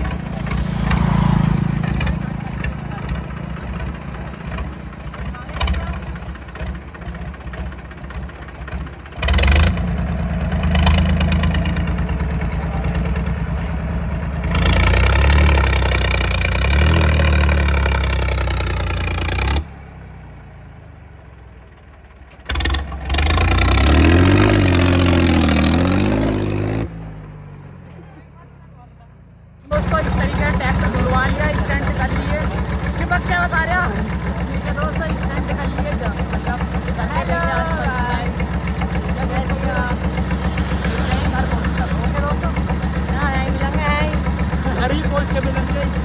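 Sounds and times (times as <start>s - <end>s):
tractor diesel engine revving: 0.0s - 28.7s, 29.3s - 46.0s.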